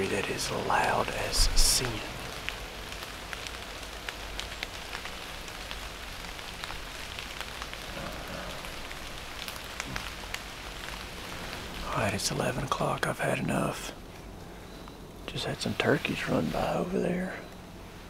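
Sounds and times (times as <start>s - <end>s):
drips ticking on leaves: 0.0s - 18.0s
light rain on leaves: 0.0s - 18.0s.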